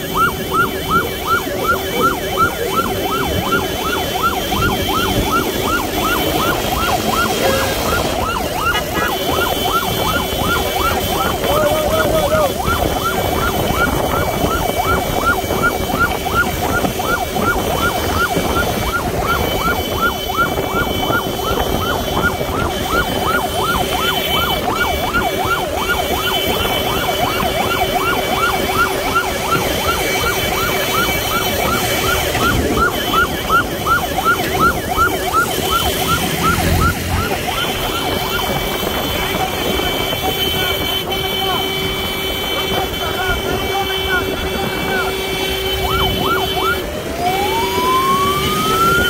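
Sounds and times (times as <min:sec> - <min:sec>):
electronic yelp siren: 0:00.0 - 0:49.0
motorcycle engines: 0:00.0 - 0:49.0
road traffic: 0:00.0 - 0:49.0.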